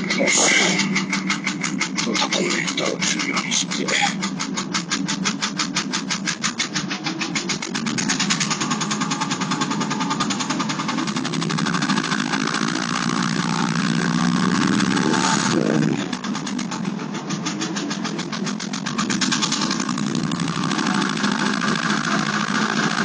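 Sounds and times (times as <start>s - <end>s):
engine rhythmic knocking: 0.0s - 23.0s.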